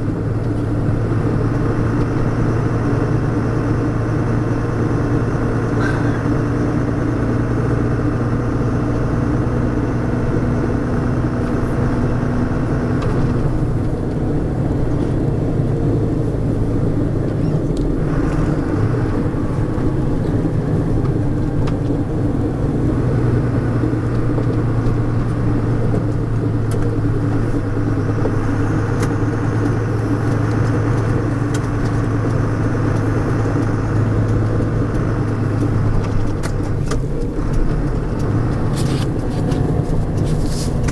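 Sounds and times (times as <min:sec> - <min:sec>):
diesel truck engine running: 0:00.0 - 0:40.9
gearbox whine: 0:00.0 - 0:40.9.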